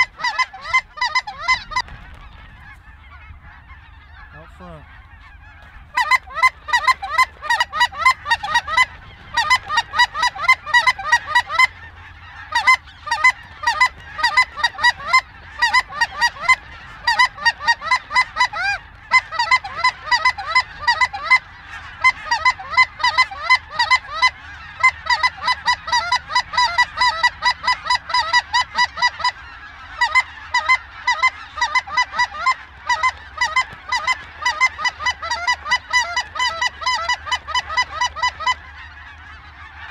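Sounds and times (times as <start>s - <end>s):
geese honking: 0.0s - 39.9s.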